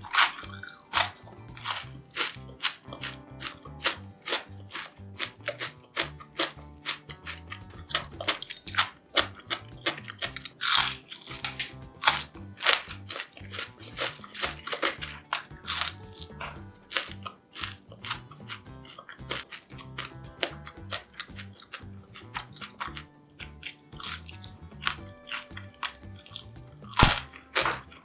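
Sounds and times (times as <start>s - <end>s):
background music: 0.0s - 28.0s
crunchy food chewing: 0.0s - 28.0s.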